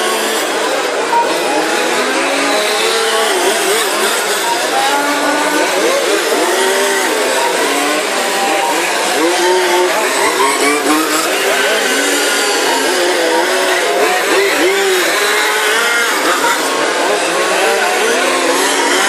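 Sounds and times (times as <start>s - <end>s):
small two-stroke engines racing: 0.0s - 19.0s.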